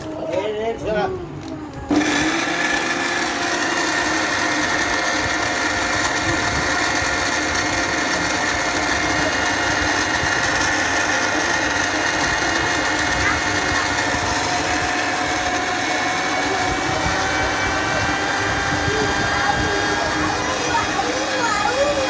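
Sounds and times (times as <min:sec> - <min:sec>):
mixer grinder motor whining: 0:00.0 - 0:22.0.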